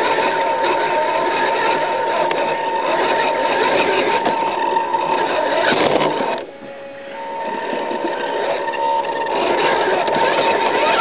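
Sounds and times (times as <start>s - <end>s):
small electric motor whirring: 0.0s - 11.0s.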